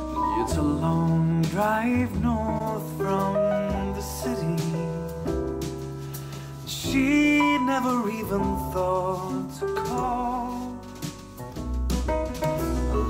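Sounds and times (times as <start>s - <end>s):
singing voice: 0.0s - 5.5s, 6.6s - 11.3s, 12.6s - 13.0s.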